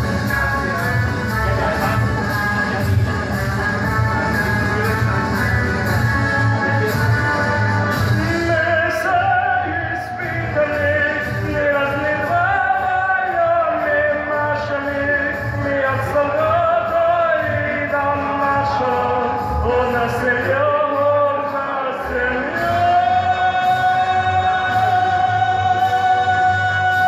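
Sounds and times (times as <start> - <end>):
backing track with steady beat: 0.0 - 27.0
man singing into a microphone: 0.0 - 27.0.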